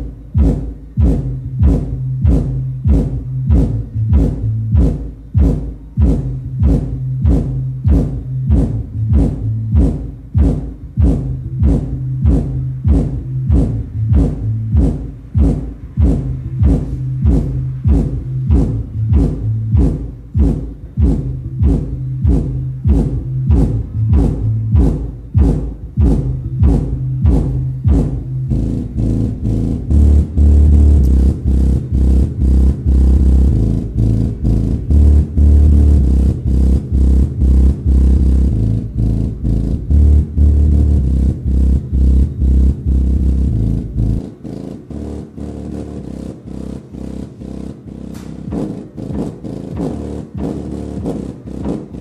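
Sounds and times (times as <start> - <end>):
bass-heavy music from subwoofer: 0.0 - 52.0.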